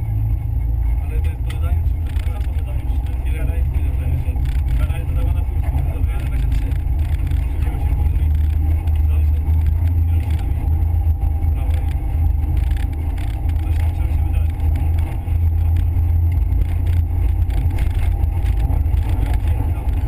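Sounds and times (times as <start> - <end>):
car engine droning under load: 0.0 - 20.0.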